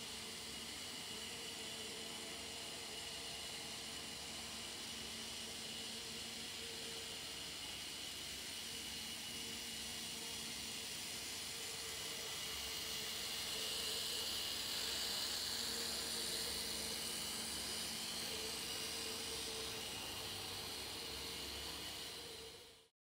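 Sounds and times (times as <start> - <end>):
model train motor hum: 0.0 - 22.9
wheels hissing on track: 0.0 - 22.9.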